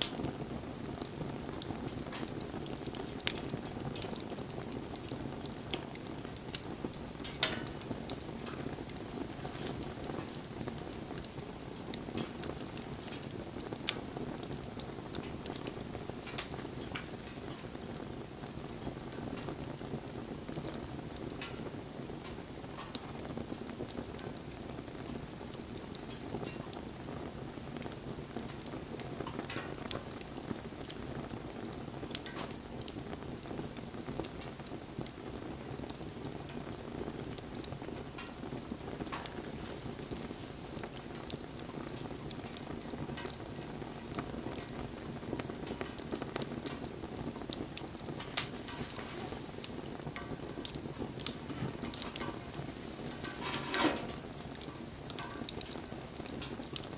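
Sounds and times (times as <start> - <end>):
bonfire flames rushing: 0.0 - 56.9
burning wood crackling and popping: 0.0 - 56.9.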